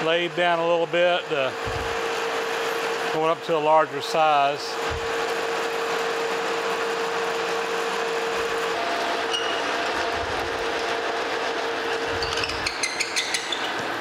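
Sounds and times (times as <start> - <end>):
lathe drilling metal: 0.1 - 14.0.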